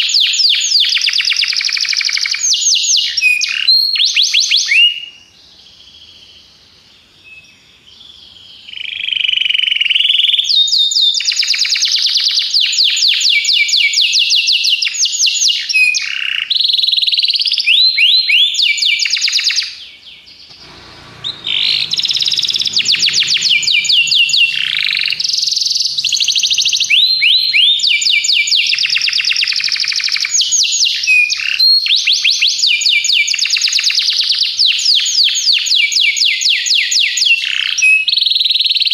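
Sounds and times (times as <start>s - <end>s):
canary singing trills: 0.0s - 33.7s.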